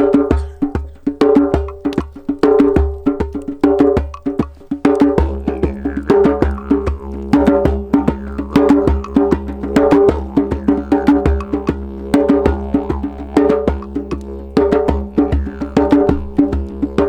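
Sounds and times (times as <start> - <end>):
pitched percussion strikes: 0.0 - 17.0.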